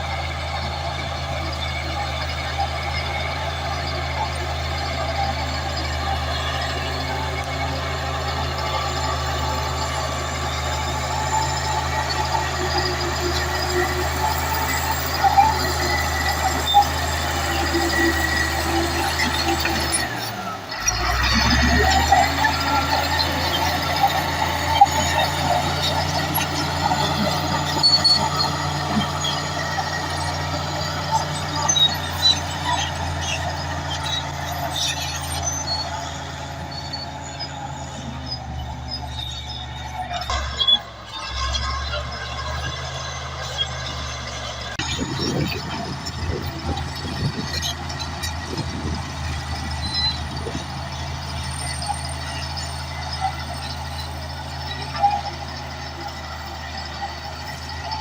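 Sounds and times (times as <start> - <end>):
bulldozer diesel engine droning: 0.0 - 58.0
high squeaks: 2.1 - 58.0.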